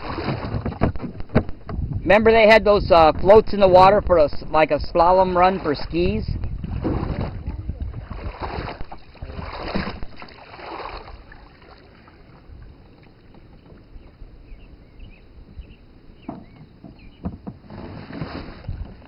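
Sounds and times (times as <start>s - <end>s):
canoe paddle swishing through water: 0.0s - 1.9s, 4.9s - 19.0s
small knocks of gliding boat: 0.0s - 2.2s, 5.7s - 19.0s
wind on microphone: 0.0s - 11.5s, 12.1s - 19.0s.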